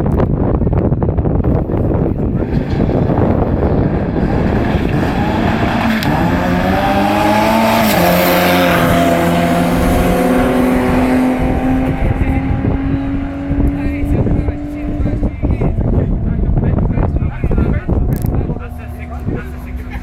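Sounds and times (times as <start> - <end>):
car engine accelerating hard: 1.5 - 20.0.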